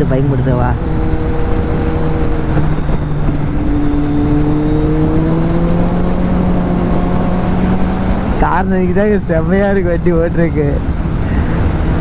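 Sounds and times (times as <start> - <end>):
motorcycle engine running: 0.0 - 12.0
wind rumble on microphone: 0.0 - 12.0.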